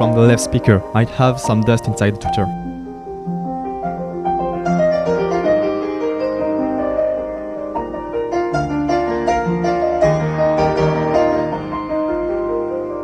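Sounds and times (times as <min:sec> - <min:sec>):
solo piano music over loudspeakers: 0:00.0 - 0:13.0.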